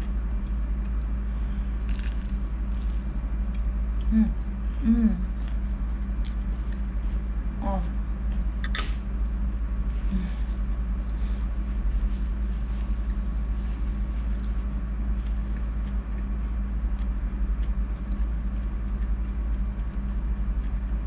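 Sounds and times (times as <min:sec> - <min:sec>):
faint soft chewing: 0:00.0 - 0:09.0, 0:09.8 - 0:21.0
low hum: 0:00.0 - 0:21.0.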